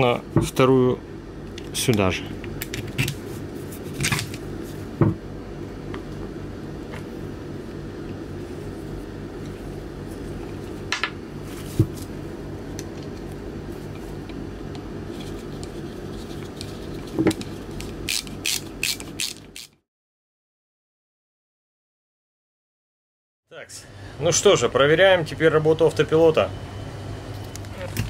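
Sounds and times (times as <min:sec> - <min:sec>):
steady low hum: 0:00.0 - 0:19.7, 0:23.6 - 0:28.0.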